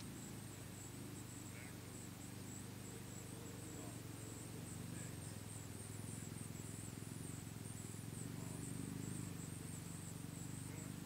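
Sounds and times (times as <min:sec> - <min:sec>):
insect trilling: 0:00.0 - 0:11.0.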